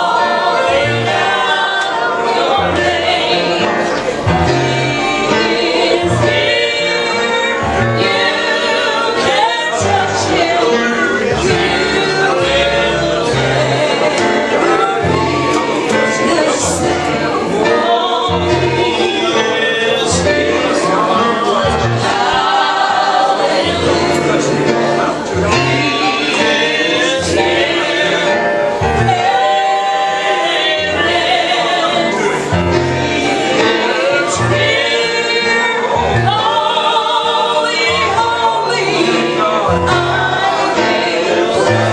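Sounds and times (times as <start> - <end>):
group singing gospel song: 0.0 - 41.9
instrumental backing: 0.0 - 41.9.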